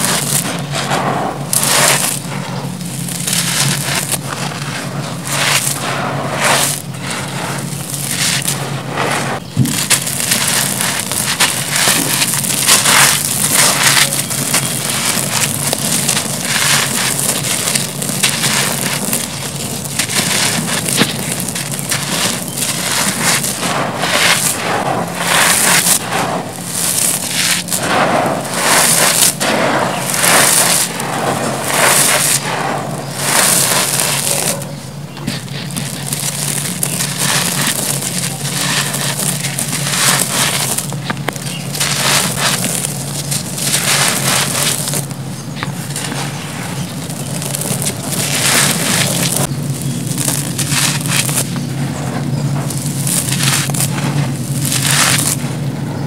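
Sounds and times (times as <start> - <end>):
grit pouring through fingers: 0.0 - 55.7
hands crunching dry concrete: 0.0 - 55.7.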